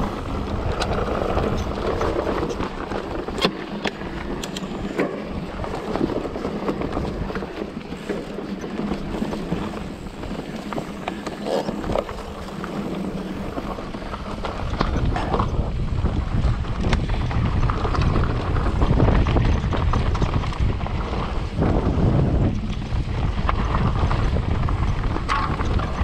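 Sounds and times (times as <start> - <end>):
bike clattering: 0.0 - 26.0
bike tyres rumbling: 0.0 - 26.0
wind on microphone: 0.0 - 26.0.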